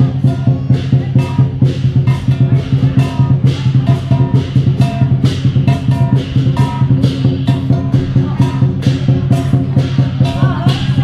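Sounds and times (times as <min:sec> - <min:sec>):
cymbal clashes: 0:00.0 - 0:11.0
drum beating: 0:00.0 - 0:11.0
ringing pitched notes: 0:00.0 - 0:11.0.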